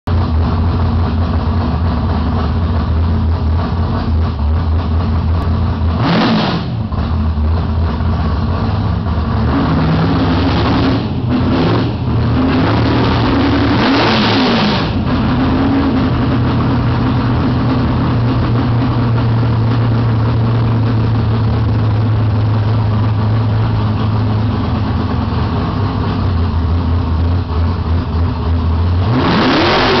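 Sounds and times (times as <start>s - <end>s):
car engine idling loudly: 0.0s - 30.0s
engine revving: 0.1s - 30.0s.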